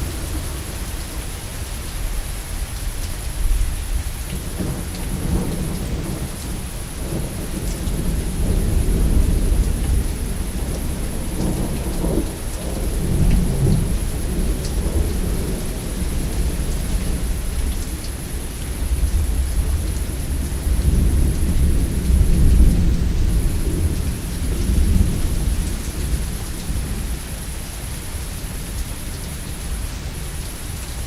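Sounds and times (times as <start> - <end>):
thunder rumbling: 0.0 - 28.8
steady rain hissing: 0.0 - 31.0.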